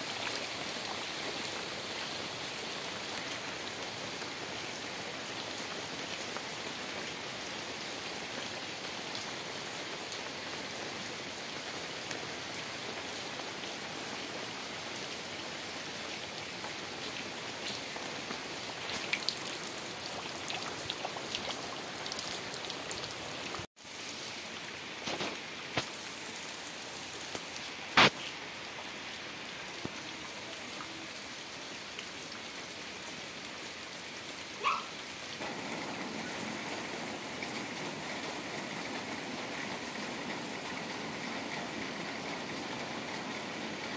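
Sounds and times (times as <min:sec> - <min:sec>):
heavy rain on water: 0:00.0 - 0:43.9.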